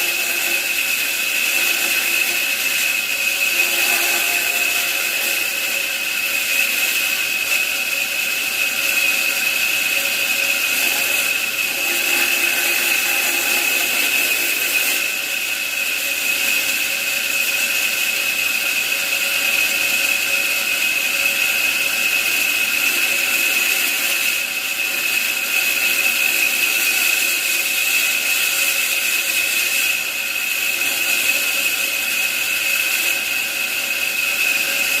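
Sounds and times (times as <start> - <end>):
power tool whining: 0.0 - 35.0.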